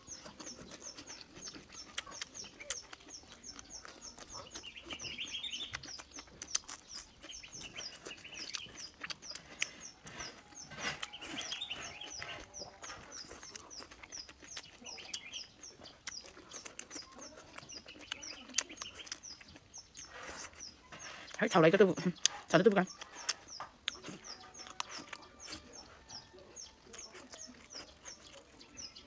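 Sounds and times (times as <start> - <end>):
chewing clicks and smacks: 0.0 - 29.0
small birds chirping: 0.0 - 29.0.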